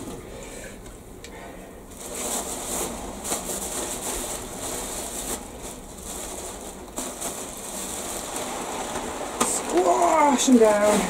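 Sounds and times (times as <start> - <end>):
water pattering on wet leaves: 2.0 - 11.0.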